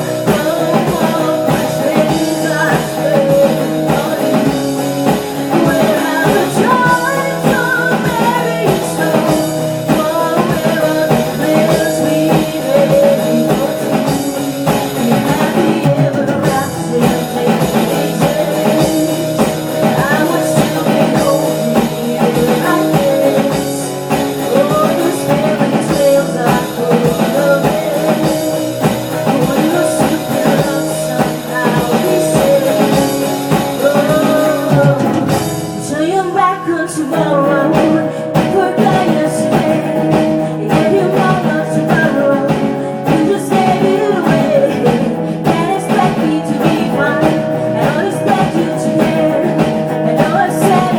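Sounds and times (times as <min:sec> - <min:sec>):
pop-rock song with vocals: 0:00.0 - 0:50.9.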